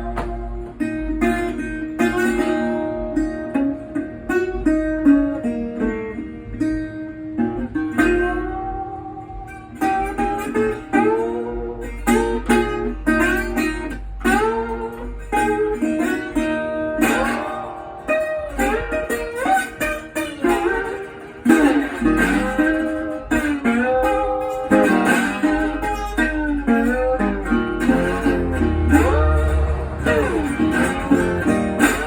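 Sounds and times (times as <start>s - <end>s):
slide resonator guitar blues: 0.0s - 32.0s.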